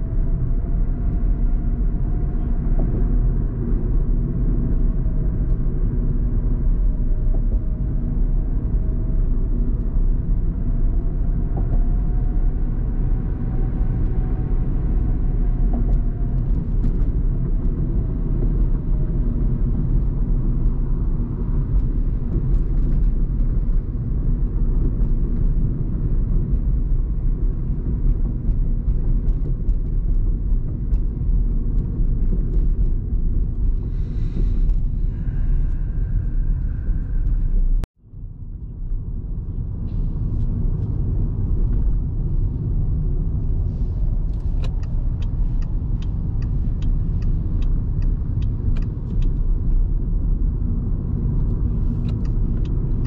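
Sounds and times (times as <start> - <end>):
tyres rumbling on road: 0.0 - 53.0.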